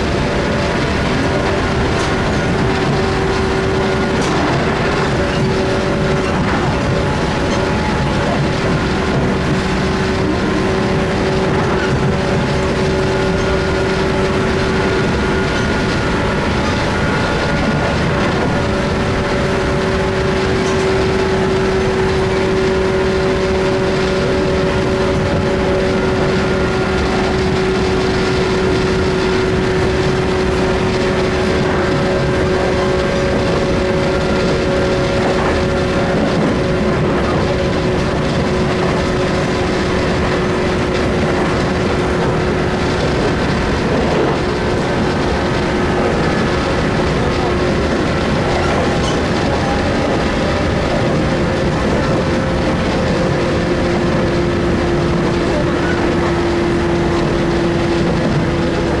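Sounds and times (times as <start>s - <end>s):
train motor whine: 0.0s - 59.0s
train wheels rumbling: 0.0s - 59.0s.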